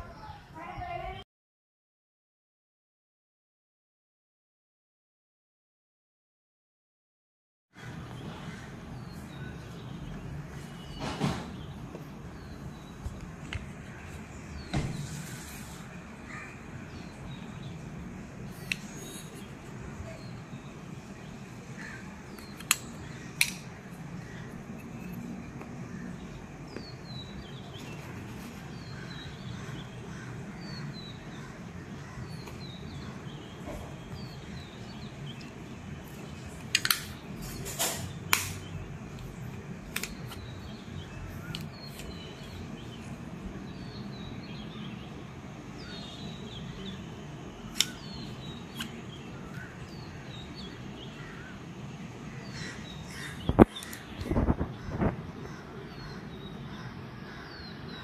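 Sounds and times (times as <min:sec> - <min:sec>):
low background noise: 0:07.8 - 0:58.0
small birds chirping: 0:07.8 - 0:58.0.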